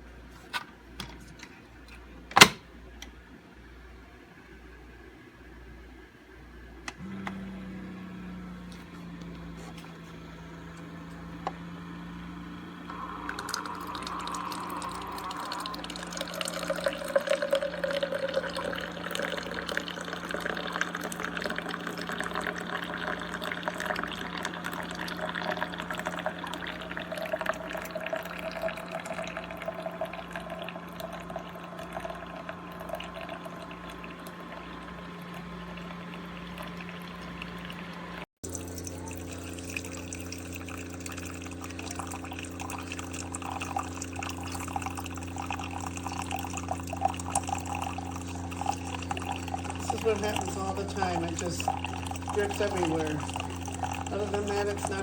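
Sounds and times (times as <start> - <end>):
coffee maker pump humming: 0.0 - 3.2, 6.7 - 55.0
coffee streaming into cup: 6.9 - 55.0.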